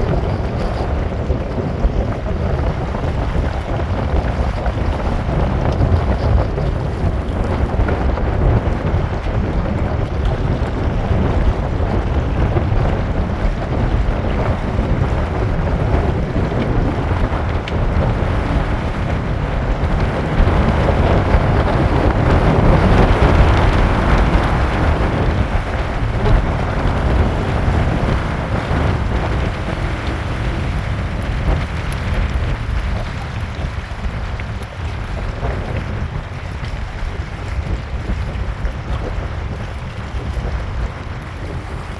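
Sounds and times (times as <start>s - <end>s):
rain: 0.0s - 41.9s
wind rumbling on microphone: 0.0s - 41.9s.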